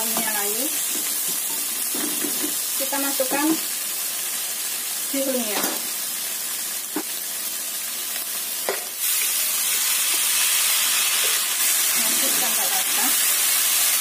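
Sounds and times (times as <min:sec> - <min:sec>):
stir-fry sizzling in a wok: 0:00.0 - 0:14.0.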